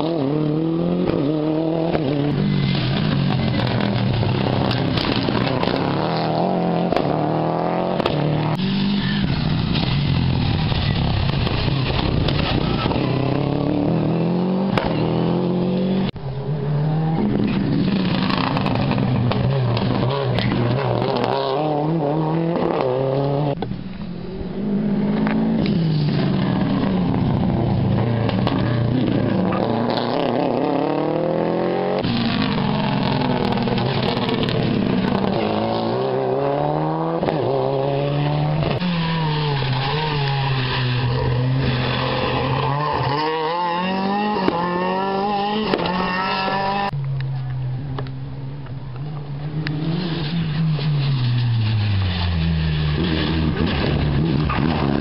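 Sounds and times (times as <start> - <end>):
engines revving hard: 0.0 - 23.6, 24.6 - 47.0, 49.6 - 55.0
rally cars passing at speed: 0.0 - 55.0.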